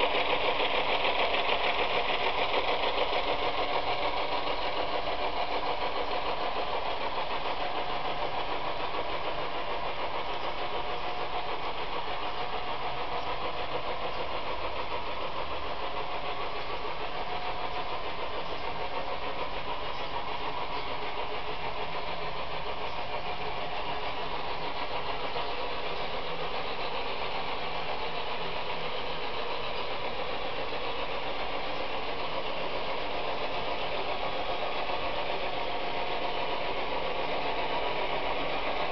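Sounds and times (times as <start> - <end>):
model diesel engine sound: 0.0 - 38.9
model train rolling on track: 0.0 - 38.9.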